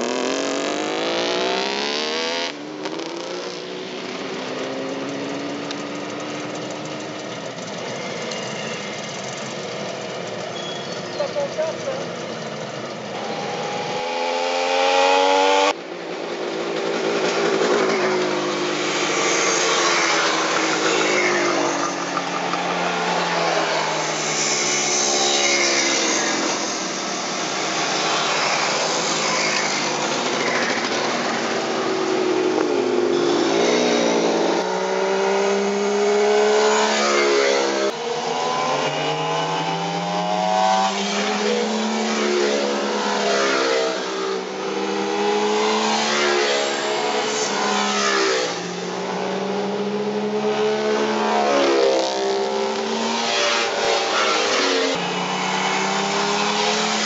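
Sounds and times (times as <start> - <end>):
motorcycles revving past: 0.0 - 10.4, 12.2 - 15.8, 16.8 - 57.0.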